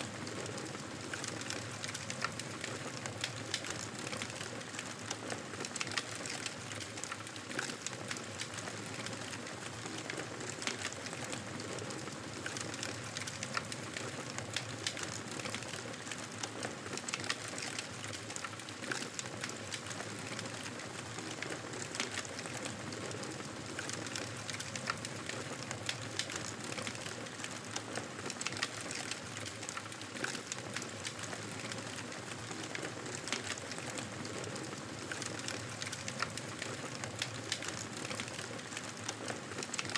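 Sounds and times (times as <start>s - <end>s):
campfire crackling and popping: 0.3s - 39.9s.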